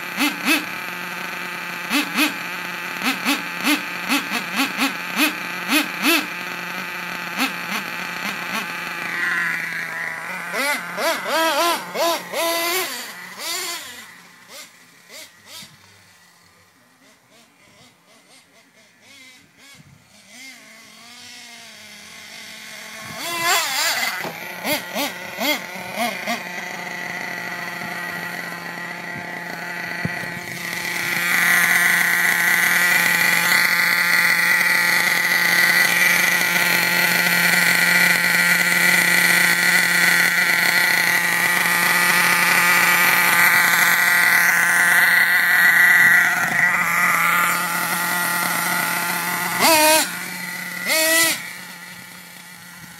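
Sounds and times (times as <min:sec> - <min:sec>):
high-pitched buzz: 0:00.0 - 0:52.9
nitro engine revving: 0:00.0 - 0:52.9.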